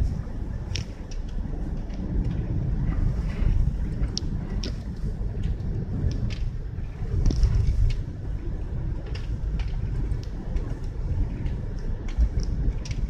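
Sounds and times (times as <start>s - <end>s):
car road and wind rumble: 0.0s - 13.0s.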